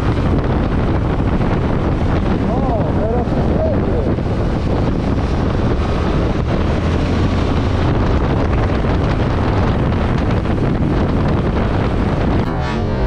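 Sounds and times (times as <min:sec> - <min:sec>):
motorcycle engine: 0:00.0 - 0:13.0
road noise: 0:00.0 - 0:13.0
wind rushing on microphone: 0:00.0 - 0:13.0.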